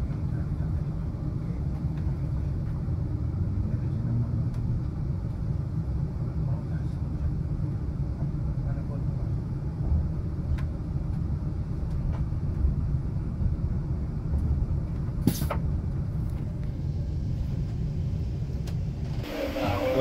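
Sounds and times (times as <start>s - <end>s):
train rumbling from inside carriage: 0.0s - 20.0s.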